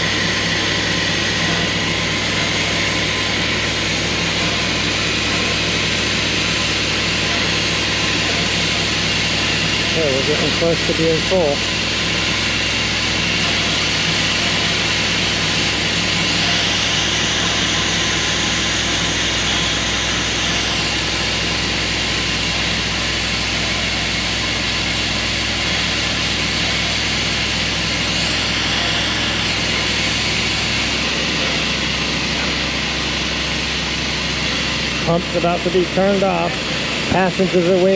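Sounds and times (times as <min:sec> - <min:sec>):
water pump running: 0:00.0 - 0:37.9.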